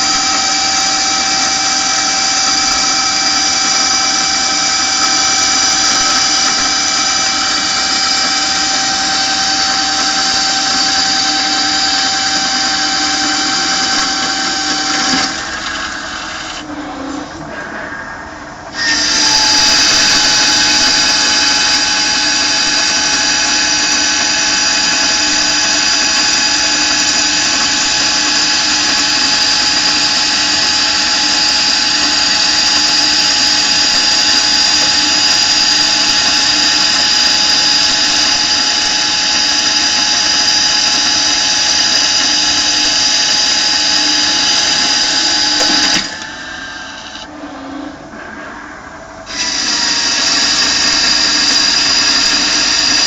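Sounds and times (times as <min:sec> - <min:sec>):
lathe cutting with high whine: 0:00.0 - 0:53.0
quiet machine sound: 0:00.0 - 0:53.0.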